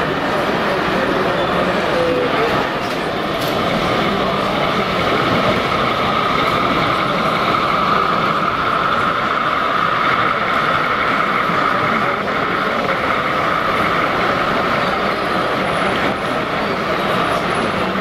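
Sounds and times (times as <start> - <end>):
exhibition hall crowd din: 0.0 - 18.0
model train whine: 0.0 - 18.0.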